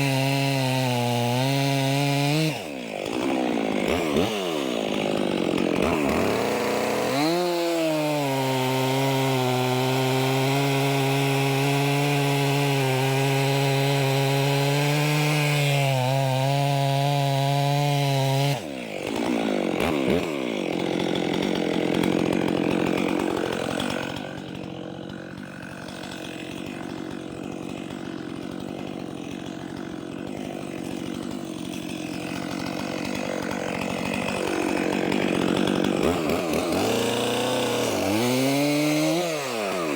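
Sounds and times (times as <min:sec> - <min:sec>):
chainsaw cutting log: 0:00.0 - 0:39.9
chainsaw idling: 0:00.0 - 0:39.9.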